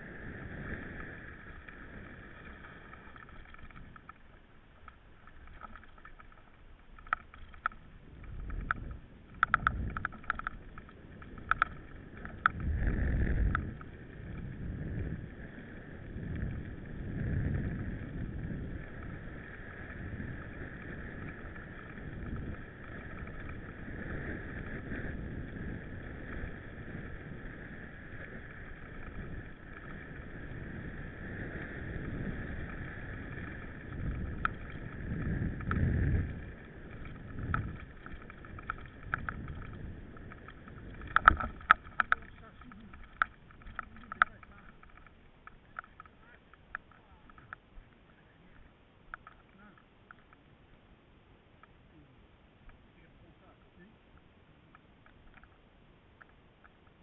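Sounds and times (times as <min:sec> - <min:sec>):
wind rumble on microphone: 0:00.0 - 0:50.3
mountain bike riding noise: 0:00.0 - 0:57.0
bike clicking and rattling: 0:01.4 - 0:15.0, 0:15.9 - 0:48.0, 0:49.1 - 0:50.4, 0:54.2 - 0:55.6.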